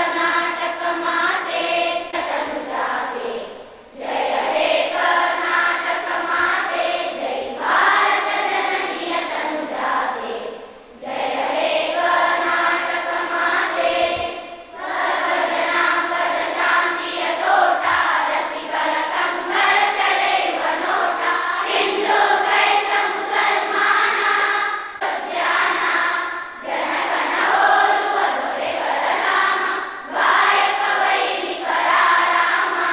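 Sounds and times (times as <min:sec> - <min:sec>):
children singing in unison: 0:00.0 - 0:32.9.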